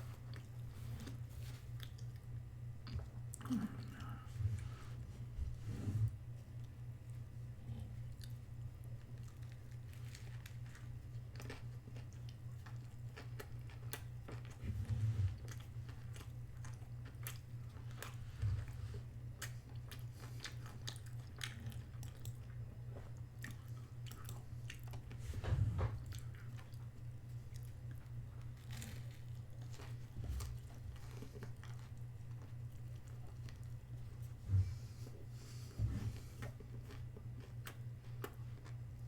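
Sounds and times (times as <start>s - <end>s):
person chewing food: 0.0s - 5.0s, 6.6s - 25.2s, 25.8s - 39.0s
steady low hum: 0.0s - 39.0s.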